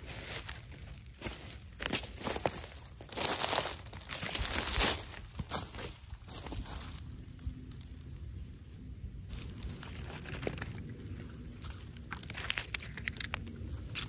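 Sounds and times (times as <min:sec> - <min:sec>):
footsteps crunching through dry leaves: 0:00.0 - 0:08.6, 0:09.3 - 0:14.0.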